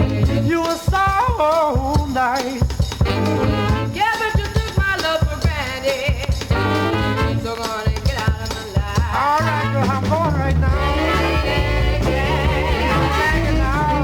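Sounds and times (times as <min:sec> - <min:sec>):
soul-funk band music: 0:00.0 - 0:14.0.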